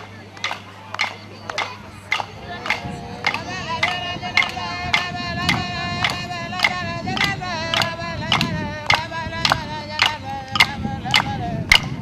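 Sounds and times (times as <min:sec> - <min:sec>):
steady struck beat: 0:00.0 - 0:12.0
voices singing long wavering notes: 0:01.3 - 0:12.0.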